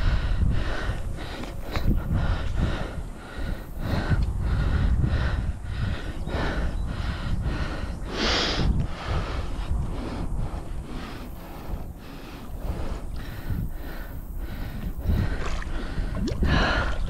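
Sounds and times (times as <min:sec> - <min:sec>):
man breathing hard: 0:00.0 - 0:17.0
wind rumbling on microphone: 0:00.0 - 0:17.0.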